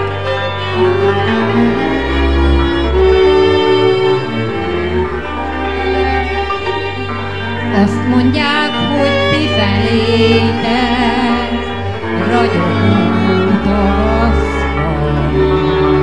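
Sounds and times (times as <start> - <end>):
sustained double bass notes: 0.0 - 16.0
violin melody with vibrato: 0.0 - 16.0.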